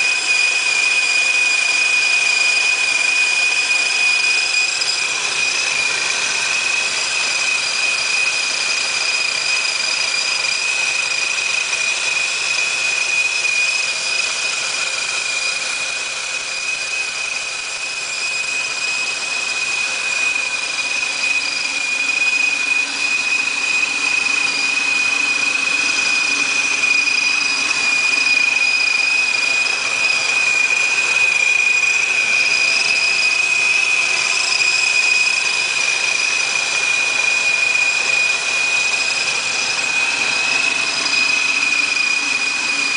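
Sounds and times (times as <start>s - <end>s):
supercharger whine: 0.0s - 42.9s.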